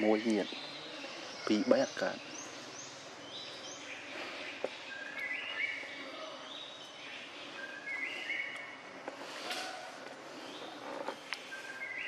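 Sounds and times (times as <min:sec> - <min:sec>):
background hiss: 0:00.0 - 0:12.0
birds whistling: 0:00.0 - 0:12.0.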